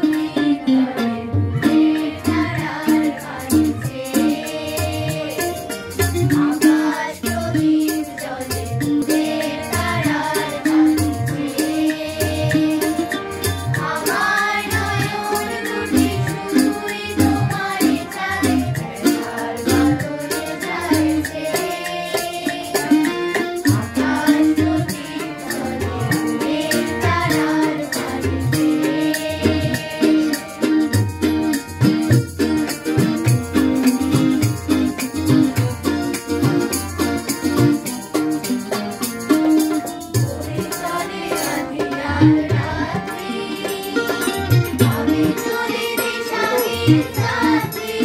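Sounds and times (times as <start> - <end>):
voices singing: 0.0 - 31.7, 39.9 - 48.0
hand drum beat: 0.0 - 48.0
harmonium chords: 0.0 - 48.0.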